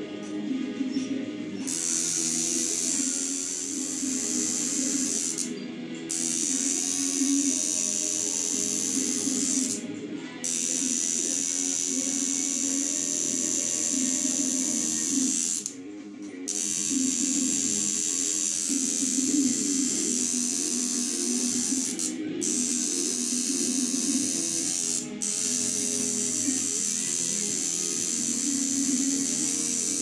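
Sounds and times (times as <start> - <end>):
background music: 0.0 - 30.0
tattoo machine buzzing: 1.6 - 30.0.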